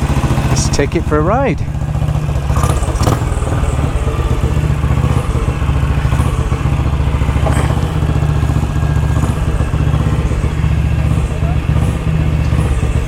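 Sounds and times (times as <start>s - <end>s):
single-cylinder engine running: 0.0s - 13.0s.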